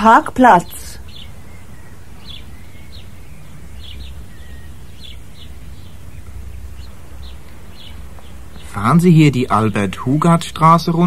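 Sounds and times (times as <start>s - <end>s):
low background rumble: 0.0s - 11.0s
small birds chirping: 0.0s - 11.0s.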